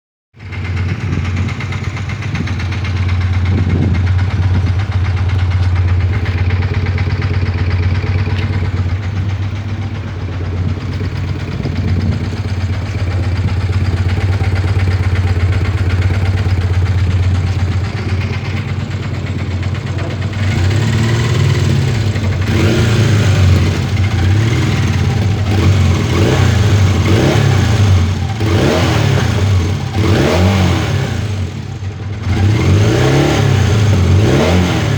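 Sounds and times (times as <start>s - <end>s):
motorcycle engine idling: 0.4s - 34.9s
motorcycle throttle blips: 0.4s - 34.9s.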